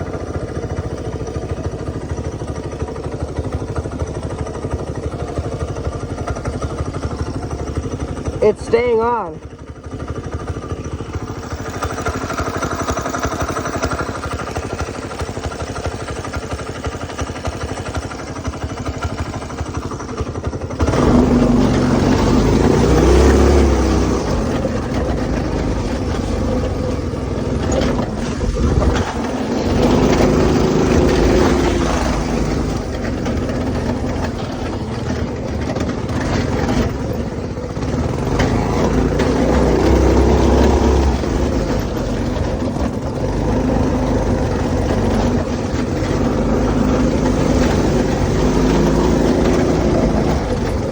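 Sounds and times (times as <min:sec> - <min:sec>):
go-kart engine revving: 0:00.0 - 0:50.9.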